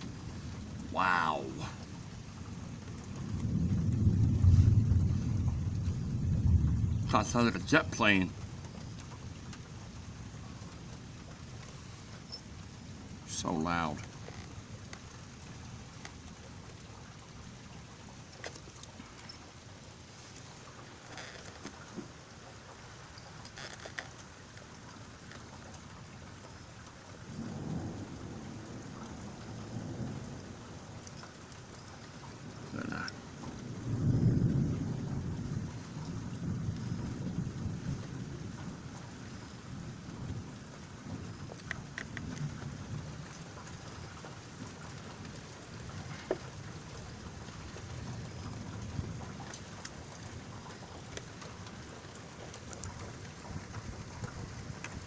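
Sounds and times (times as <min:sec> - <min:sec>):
thunder rumbling: 0:00.0 - 0:18.2, 0:27.2 - 0:55.0
steady rain: 0:00.0 - 0:55.0
sharp drip ticks: 0:07.0 - 0:19.6, 0:22.6 - 0:34.6, 0:35.2 - 0:55.0.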